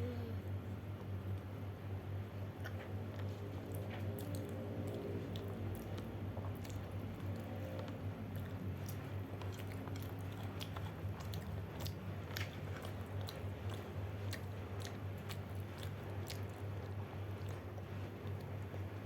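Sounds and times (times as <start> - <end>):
steady low hum: 0.0 - 19.0
person chewing pizza: 2.2 - 19.0.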